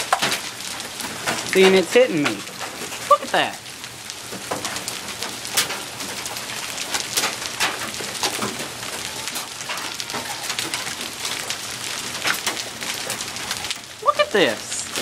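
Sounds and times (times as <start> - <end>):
hail and rain hissing: 0.0 - 15.0
hailstones cracking on surfaces: 0.0 - 15.0.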